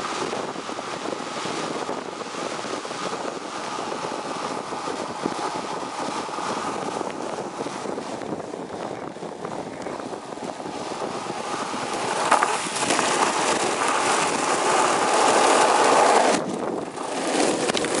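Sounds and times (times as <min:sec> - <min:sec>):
longboard wheels rolling on asphalt: 0:00.0 - 0:18.0.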